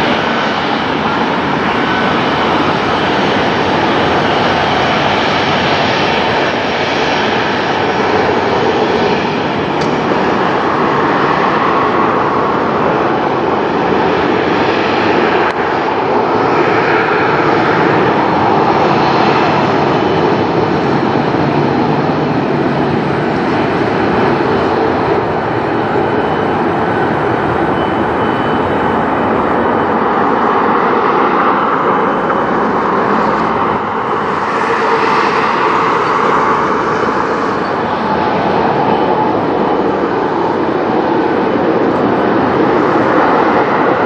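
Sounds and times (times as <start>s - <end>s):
faint high jet whine: 0.0s - 44.0s
jet engines roaring: 0.0s - 44.0s.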